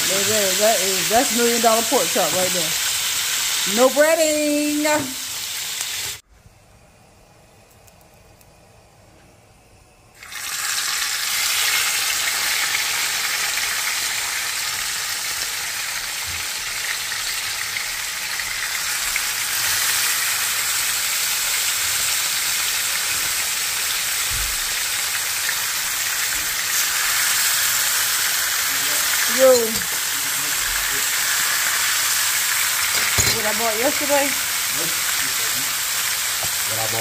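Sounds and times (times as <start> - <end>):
meat sizzling in hot oil: 0.0 - 6.2, 10.2 - 37.0.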